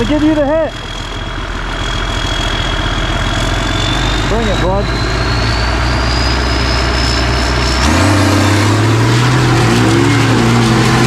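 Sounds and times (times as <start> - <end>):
thin rising whine: 0.0 - 11.0
three-wheeler engines revving: 0.0 - 11.0.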